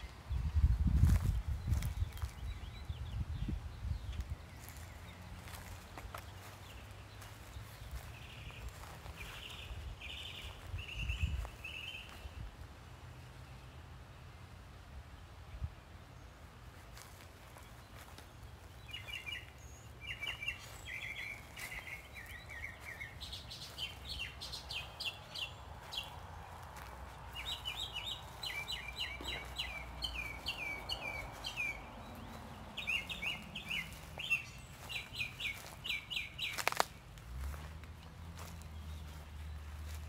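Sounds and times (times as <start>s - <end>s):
songbird chirping: 0.0s - 40.0s.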